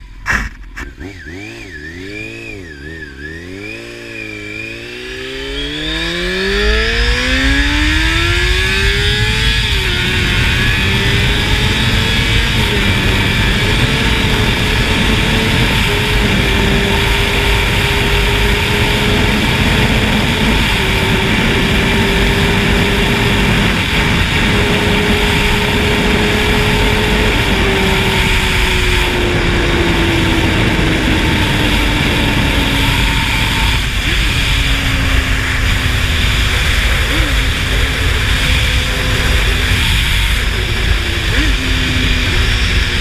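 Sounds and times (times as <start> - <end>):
motorcycle engine running: 0.0 - 43.0
wind rush: 5.2 - 43.0.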